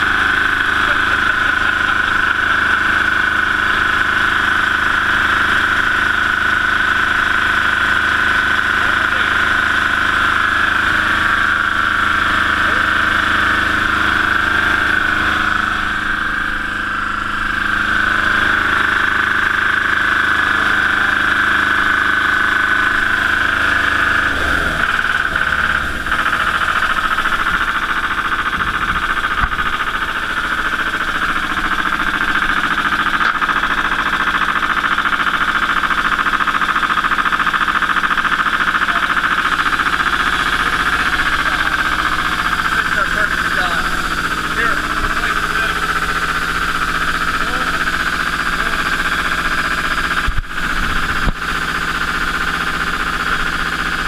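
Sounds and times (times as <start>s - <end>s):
boat engine idling with whine: 0.0s - 54.0s.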